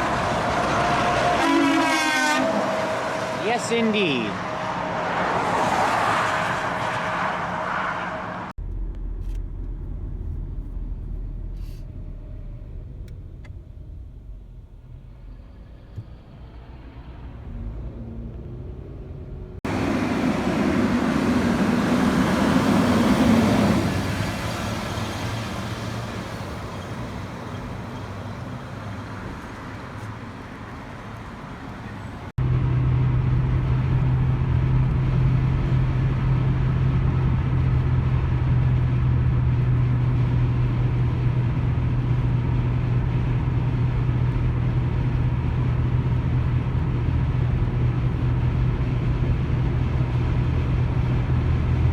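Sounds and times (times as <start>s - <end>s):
trucks driving past: 0.0s - 12.9s, 14.8s - 51.9s.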